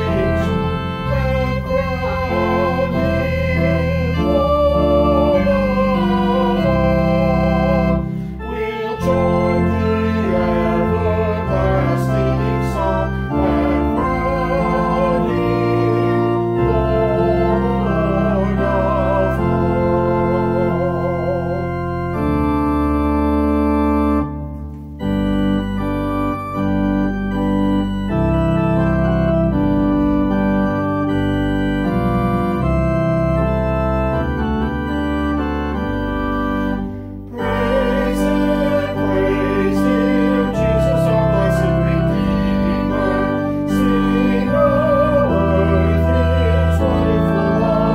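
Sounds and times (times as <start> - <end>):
organ playing a hymn: 0.0 - 47.9.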